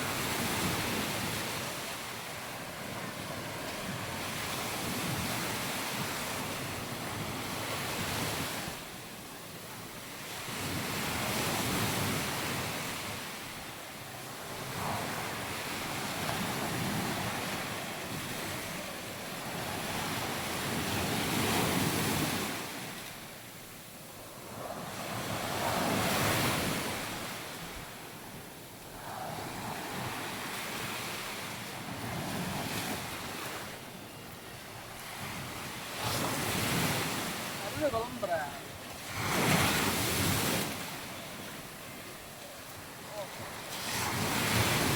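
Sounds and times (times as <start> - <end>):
waves breaking on beach: 0.0 - 44.9.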